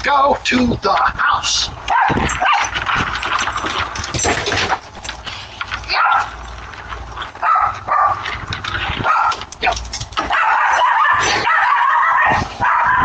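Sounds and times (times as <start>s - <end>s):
dogs moving noisily: 1.8s - 13.0s.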